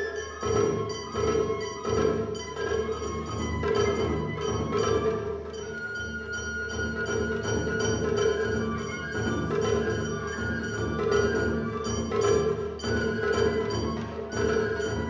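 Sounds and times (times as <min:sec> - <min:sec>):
bamboo flute: 0:00.0 - 0:15.0.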